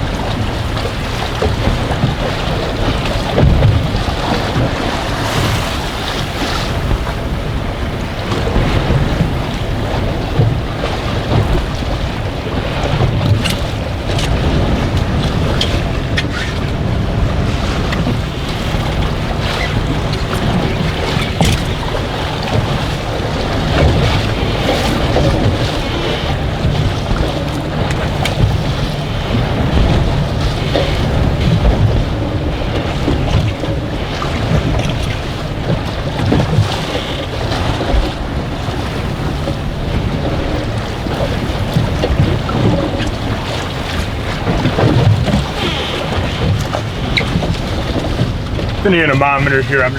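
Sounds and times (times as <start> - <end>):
waves slapping boat hull: 0.0 - 49.9
wind on microphone: 0.0 - 49.9.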